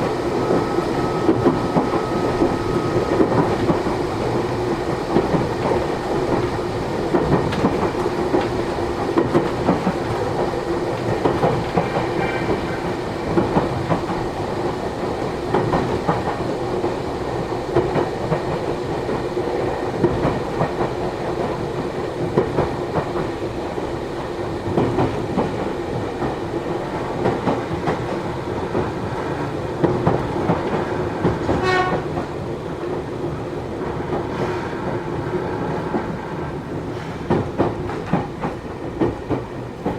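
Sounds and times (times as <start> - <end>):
rail joint clicks: 0.0 - 39.9
train wheels rumbling on rail: 0.0 - 39.9.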